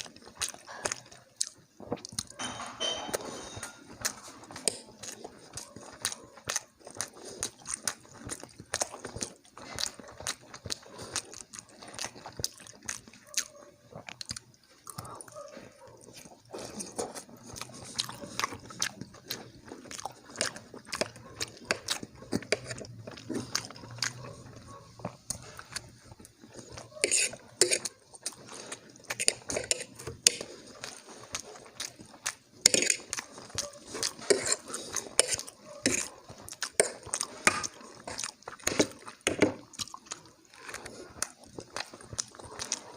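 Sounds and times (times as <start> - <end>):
person chewing with wet clicks: 0.0 - 2.4, 3.8 - 42.9.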